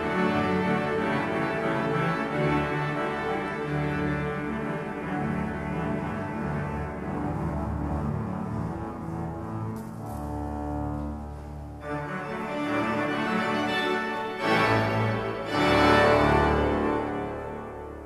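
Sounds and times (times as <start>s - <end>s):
pipe organ playing full chords: 0.0s - 18.0s.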